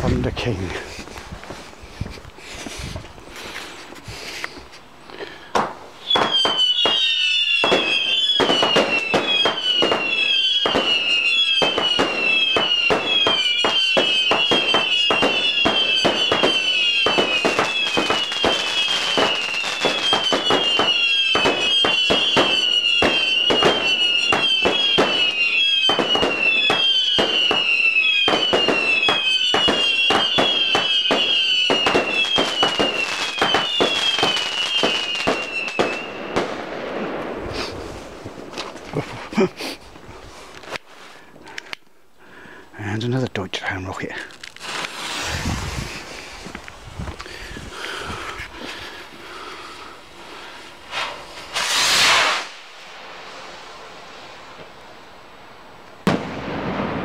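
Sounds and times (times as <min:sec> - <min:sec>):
firework bangs and crackling: 0:00.0 - 0:41.6, 0:43.7 - 0:57.0
firework whistles: 0:02.6 - 0:41.7, 0:44.4 - 0:57.0.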